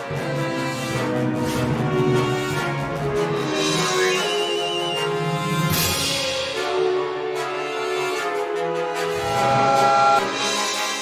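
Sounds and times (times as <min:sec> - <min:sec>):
orchestral music with held strings: 0:00.0 - 0:11.0.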